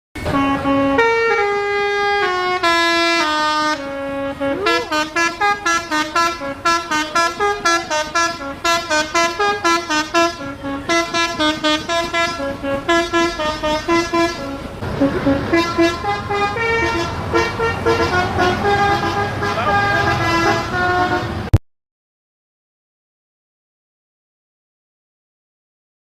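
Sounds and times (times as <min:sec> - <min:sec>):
multi-note bus horn playing tune: 0:00.2 - 0:21.6.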